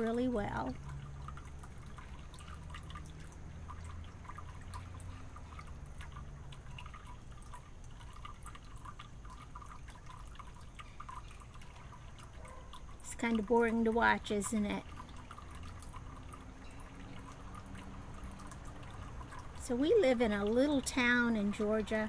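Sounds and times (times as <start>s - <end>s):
soft drip-like ticks: 0.0s - 22.0s.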